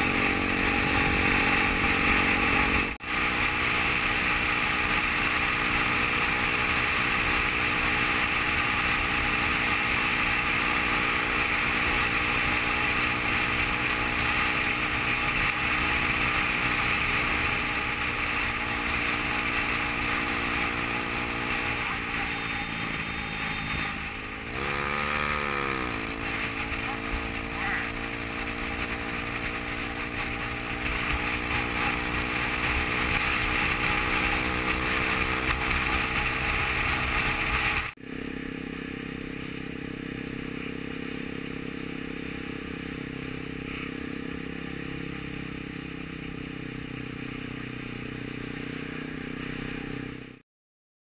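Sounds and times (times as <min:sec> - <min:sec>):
motorcycle engine running: 0:00.0 - 0:50.4.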